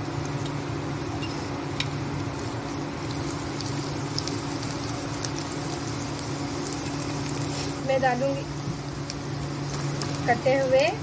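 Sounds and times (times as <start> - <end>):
ginger and garlic sizzling in oil: 0.0 - 11.0
steady low hum: 0.0 - 11.0.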